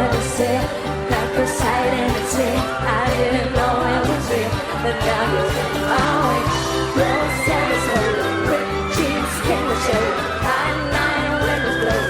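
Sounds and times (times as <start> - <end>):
band with drum beat and bass: 0.0 - 12.0
woman singing lead vocal: 0.0 - 12.0.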